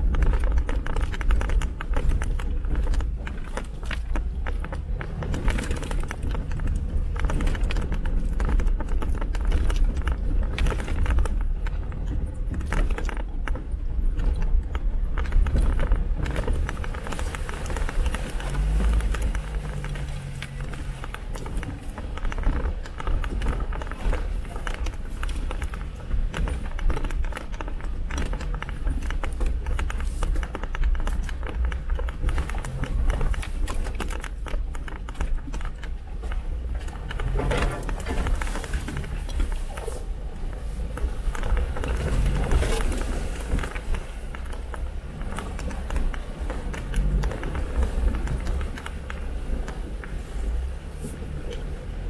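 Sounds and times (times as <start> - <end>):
rattles and knocks: 0.0 - 51.8
vehicle rumble off-road: 0.0 - 52.0.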